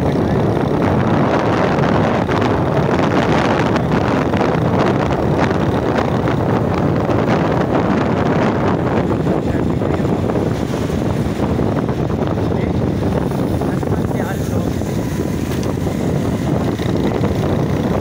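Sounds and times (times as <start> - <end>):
vehicle running: 0.0 - 18.0
wind buffeting microphone: 0.0 - 18.0.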